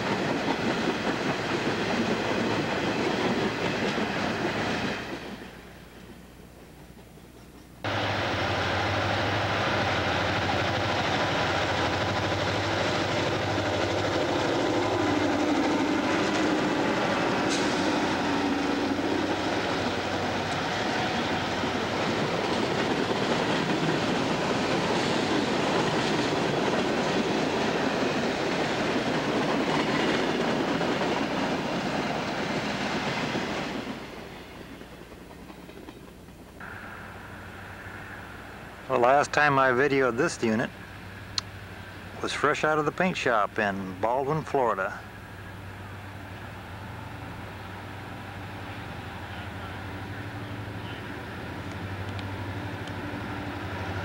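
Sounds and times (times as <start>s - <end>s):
freight cars rumbling over rails: 0.0s - 6.3s, 7.8s - 54.0s
diesel locomotive engines droning: 0.0s - 54.0s.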